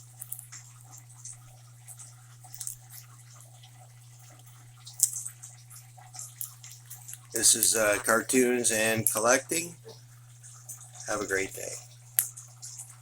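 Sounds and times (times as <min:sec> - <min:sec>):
parrots crunching popcorn: 0:00.0 - 0:13.0
steady low hum: 0:00.0 - 0:13.0.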